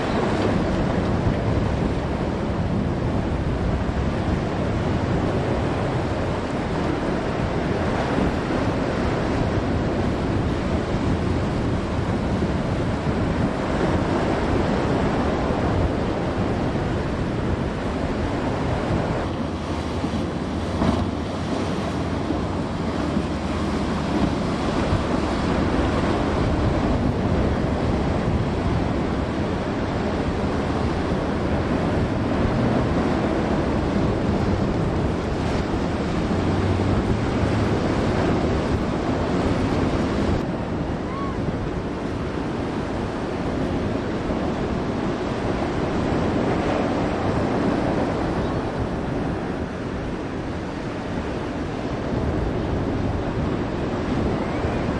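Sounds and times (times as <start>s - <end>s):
ocean surf rushing: 0.0s - 54.9s
wind buffeting microphone: 0.0s - 54.9s.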